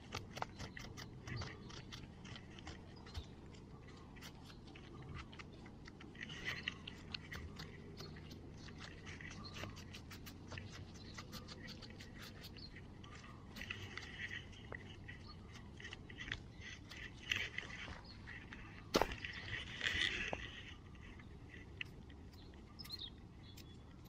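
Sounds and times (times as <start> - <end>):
fingers scraping gravelly soil: 0.0 - 5.2, 6.1 - 23.0.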